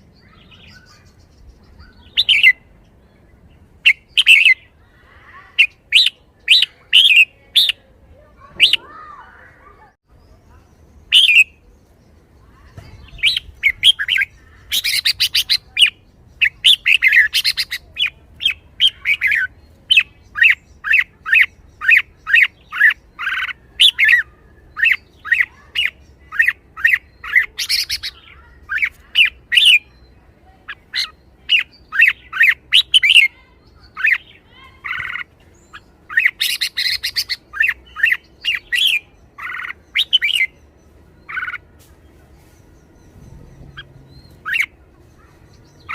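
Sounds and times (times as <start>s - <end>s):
bird chirping: 0.0s - 45.9s.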